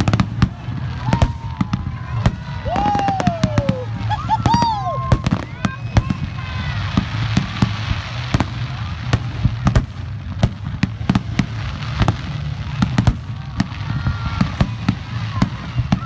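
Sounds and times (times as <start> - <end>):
fireworks bangs and pops: 0.0 - 16.0.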